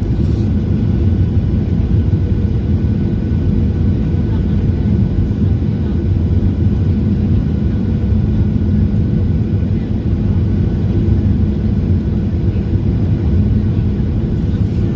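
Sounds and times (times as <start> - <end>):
jet engine rumble in cabin: 0.0 - 14.9.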